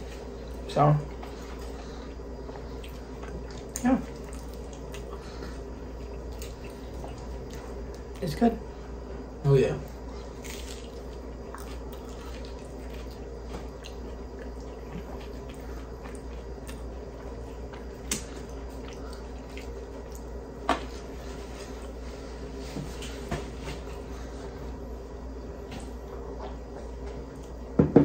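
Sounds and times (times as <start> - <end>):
people chewing pizza: 0.0 - 27.8
steady low hum: 0.0 - 28.0.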